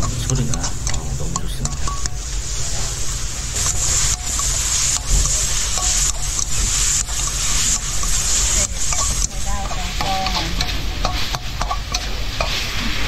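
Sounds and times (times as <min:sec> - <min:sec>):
meat sizzling in a hot pan: 0:00.0 - 0:13.0.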